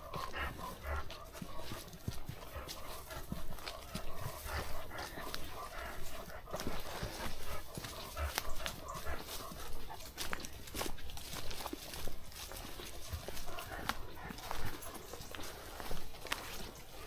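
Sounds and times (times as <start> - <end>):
footsteps on woodland path: 0.0 - 17.0.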